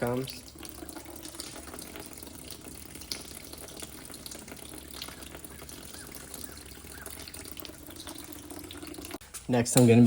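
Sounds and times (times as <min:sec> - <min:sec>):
water running into a bucket: 0:00.0 - 0:09.2.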